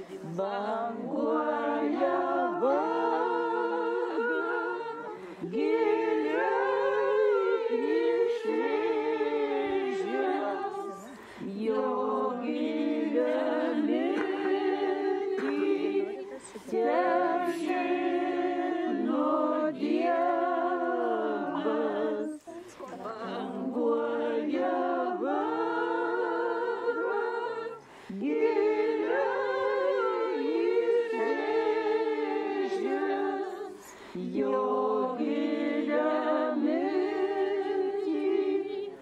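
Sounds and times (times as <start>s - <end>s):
women singing together: 0.0s - 39.0s.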